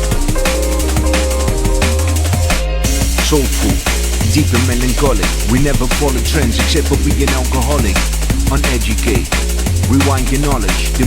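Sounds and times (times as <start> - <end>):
drum and bass music: 0.0 - 11.0.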